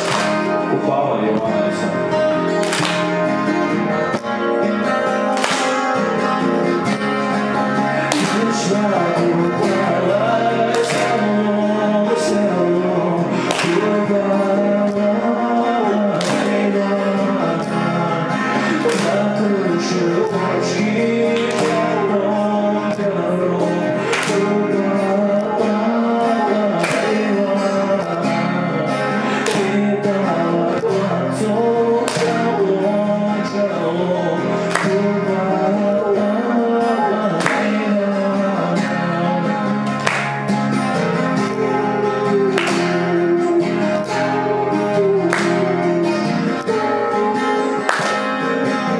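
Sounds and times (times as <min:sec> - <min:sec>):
acoustic guitar strumming: 0:00.0 - 0:48.9
man singing folk song: 0:00.0 - 0:48.9.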